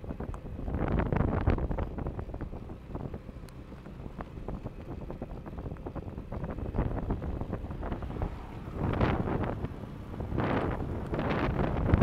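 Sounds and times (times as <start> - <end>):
car rumbling on road: 0.0 - 12.0
wind buffeting microphone: 0.0 - 12.0.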